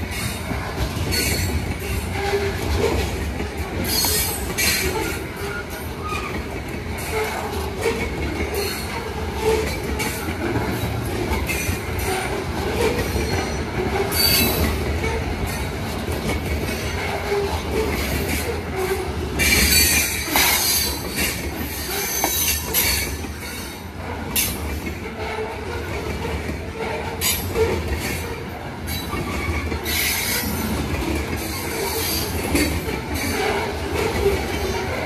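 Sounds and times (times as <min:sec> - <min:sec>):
steel wheels rumbling on rails: 0:00.0 - 0:35.0.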